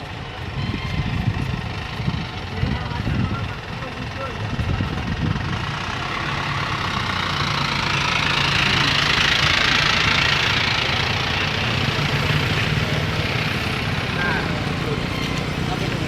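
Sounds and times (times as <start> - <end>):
road noise: 0.0 - 16.0
vehicle engine humming: 0.0 - 16.0.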